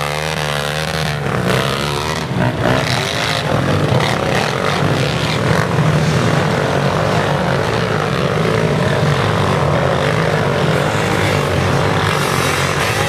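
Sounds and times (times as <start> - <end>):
racing atv engines revving: 0.0 - 13.0.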